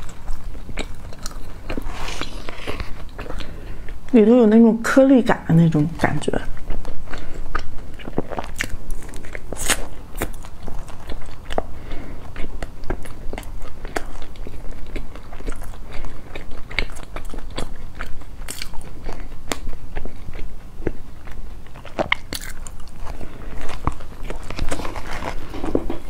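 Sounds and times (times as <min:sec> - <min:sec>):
chewing crunchy pastry: 0:00.0 - 0:26.0.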